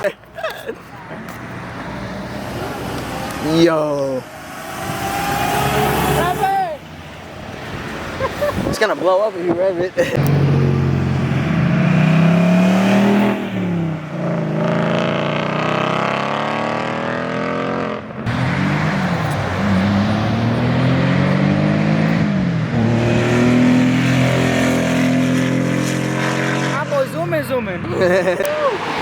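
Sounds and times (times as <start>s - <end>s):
car engine revving: 1.4s - 8.2s, 10.1s - 29.0s.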